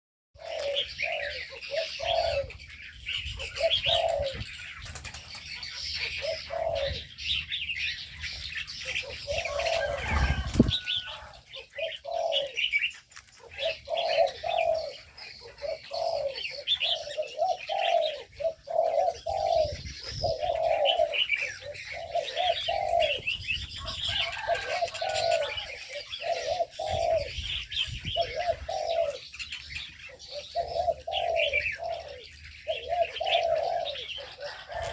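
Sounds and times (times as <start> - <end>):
doves cooing: 0.4 - 34.9
small birds chirping: 0.4 - 34.9.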